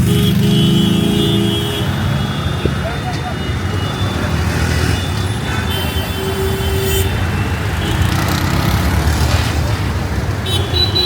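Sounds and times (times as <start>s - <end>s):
vehicle engines passing: 0.0s - 11.0s.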